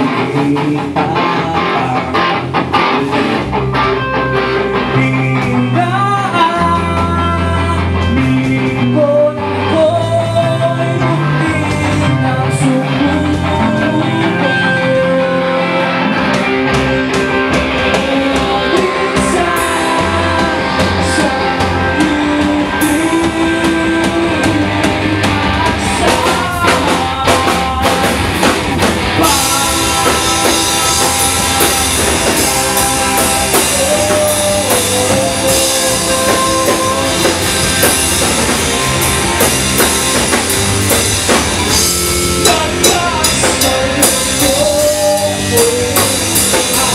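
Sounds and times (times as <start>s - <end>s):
person singing into microphone: 0.0s - 3.4s, 4.5s - 39.4s, 41.7s - 46.9s
live rock band playing: 0.0s - 46.9s.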